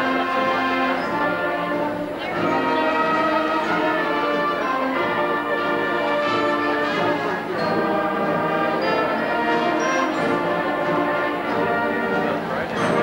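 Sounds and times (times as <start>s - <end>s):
brass band playing held chords: 0.0s - 13.0s.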